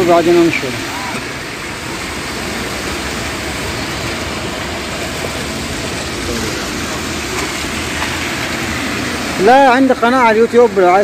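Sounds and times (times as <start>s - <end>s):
traffic hiss on wet street: 0.0s - 11.0s
tyres running through water: 0.0s - 11.0s.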